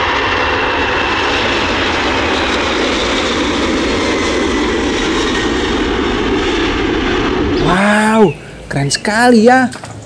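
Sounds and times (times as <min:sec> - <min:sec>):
airplane engine rushing: 0:00.0 - 0:10.0.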